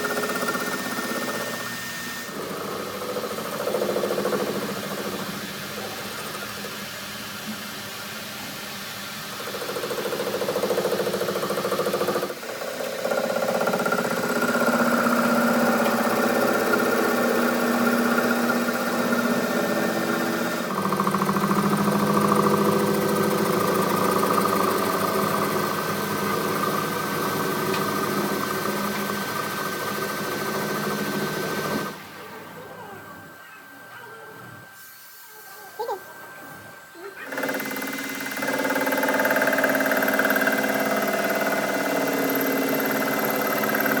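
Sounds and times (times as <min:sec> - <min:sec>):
machine motor humming: 0:00.0 - 0:34.8, 0:36.1 - 0:44.0.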